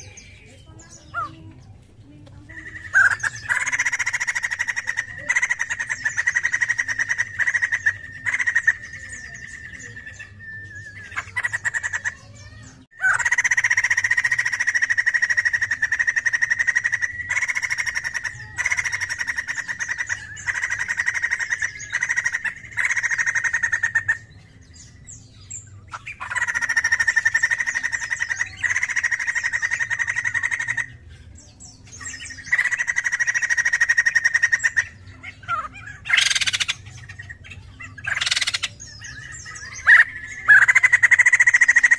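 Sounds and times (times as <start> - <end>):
bird singing chattering notes: 0.0 - 41.9.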